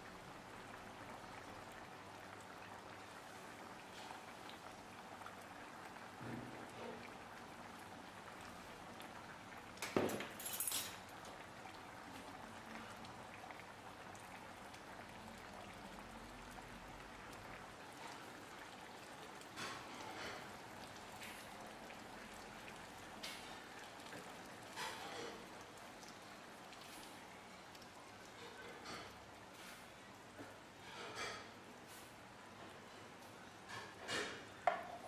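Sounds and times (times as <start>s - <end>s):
curry bubbling in a pan: 0.0s - 35.0s.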